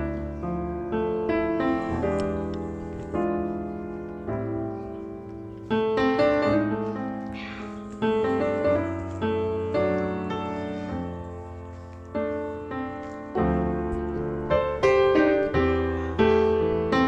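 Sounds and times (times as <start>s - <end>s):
gentle piano chords: 0.0s - 17.0s.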